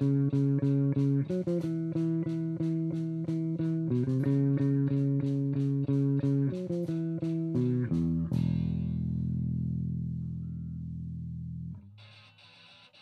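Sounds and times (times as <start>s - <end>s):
electric bass guitar notes: 0.0s - 12.5s.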